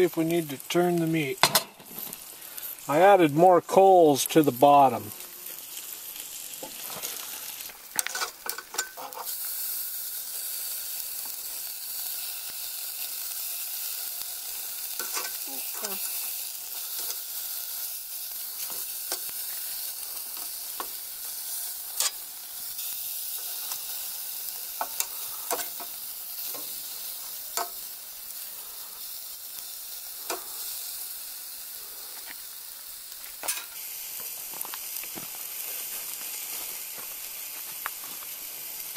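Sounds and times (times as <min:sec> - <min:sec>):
utensil clicking and scraping on grill: 0:00.0 - 0:03.0, 0:05.1 - 0:38.9
ribs sizzling on a grill: 0:00.0 - 0:38.9.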